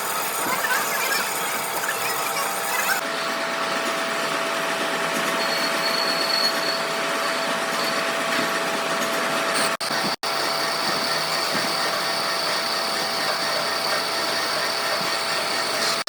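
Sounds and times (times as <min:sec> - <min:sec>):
workshop machinery whining: 0:00.0 - 0:16.0.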